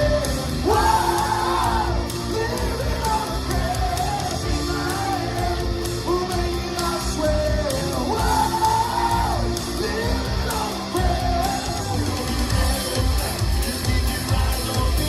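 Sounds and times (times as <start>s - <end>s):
drums cymbal beat: 0.0s - 15.0s
person singing: 0.0s - 15.0s
rock band playing: 0.0s - 15.0s.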